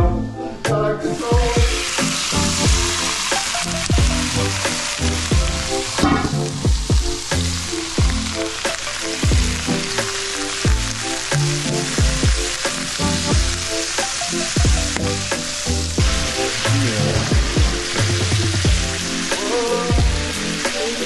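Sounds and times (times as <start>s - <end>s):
meat sizzling in a frying pan: 1.2s - 21.0s
music with deep bass beat: 1.4s - 21.0s.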